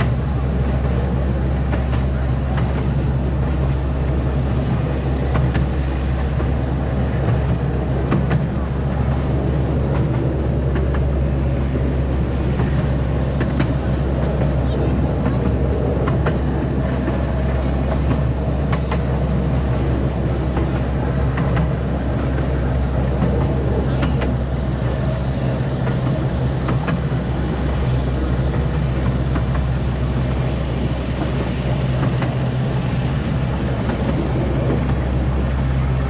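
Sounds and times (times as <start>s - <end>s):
ride train rumbling on track: 0.0s - 36.0s
wheel and carriage clicks: 0.0s - 36.0s.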